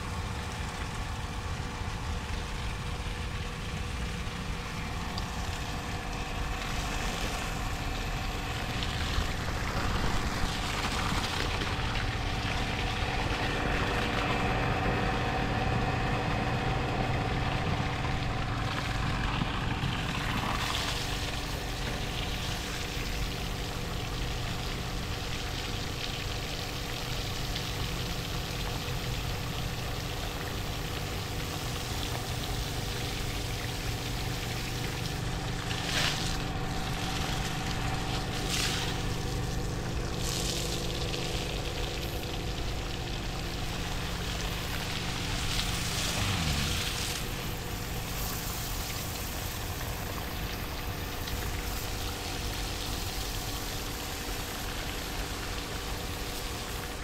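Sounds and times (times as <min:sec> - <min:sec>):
water pump motor hum: 0:00.0 - 0:57.0
water rushing: 0:00.0 - 0:57.0.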